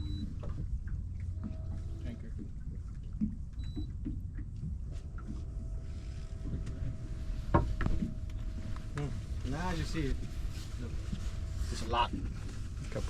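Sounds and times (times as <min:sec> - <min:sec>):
faint steady whine: 0:00.0 - 0:13.0
low rumble of wind and water: 0:00.0 - 0:13.0.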